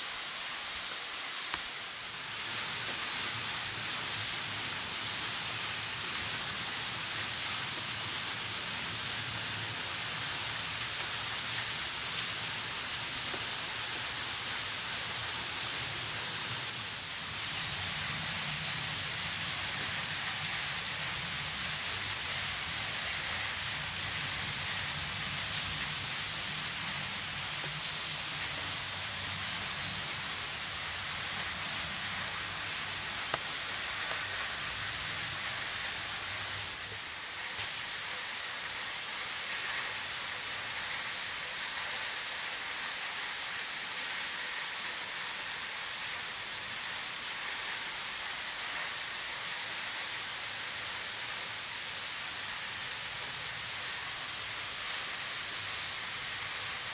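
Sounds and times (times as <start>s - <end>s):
waterfall splashing: 0.0s - 56.9s.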